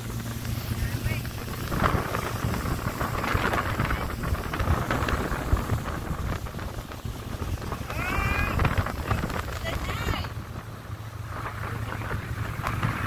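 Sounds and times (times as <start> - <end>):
motorboat engine drone: 0.0 - 13.0
water rushing: 0.0 - 13.0
wind buffeting microphone: 0.0 - 13.0.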